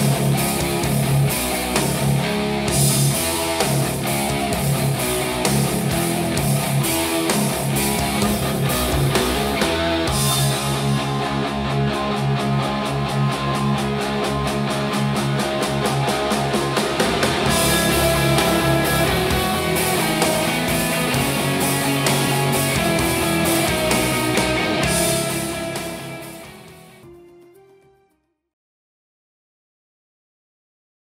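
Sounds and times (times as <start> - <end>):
rock song with guitars: 0.0 - 27.4
steady driving beat: 0.0 - 27.4.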